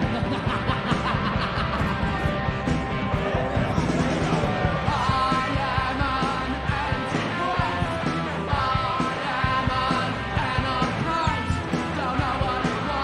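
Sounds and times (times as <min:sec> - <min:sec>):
driving drum beat: 0:00.0 - 0:13.0
electric guitars: 0:00.0 - 0:13.0
person singing: 0:01.8 - 0:13.0.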